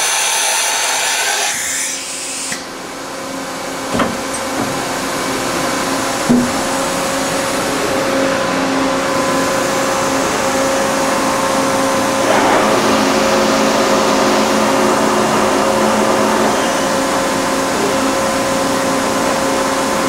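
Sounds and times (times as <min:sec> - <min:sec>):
machine hum: 0:02.8 - 0:20.0
spindle whine: 0:03.9 - 0:20.0.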